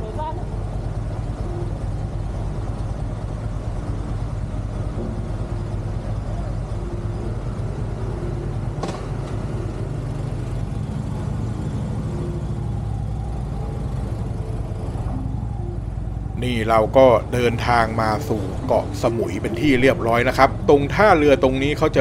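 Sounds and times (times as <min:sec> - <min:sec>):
large engine rumbling: 0:00.0 - 0:22.0.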